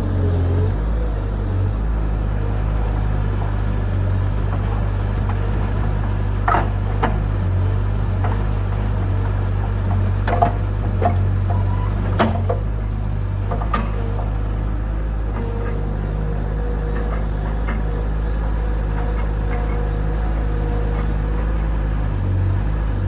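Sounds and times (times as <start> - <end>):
skid steer engine running: 0.0 - 23.0.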